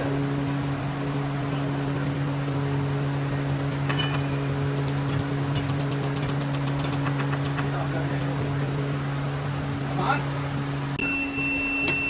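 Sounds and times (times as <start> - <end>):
workshop machinery motor hum: 0.0 - 12.0.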